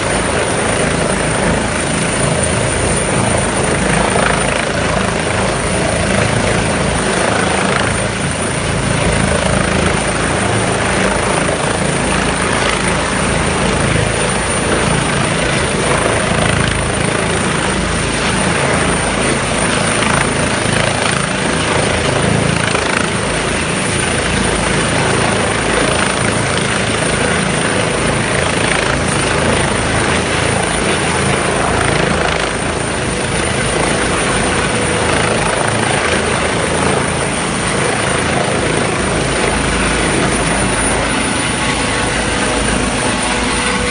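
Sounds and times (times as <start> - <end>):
helicopter rotor and engine: 0.0 - 43.9.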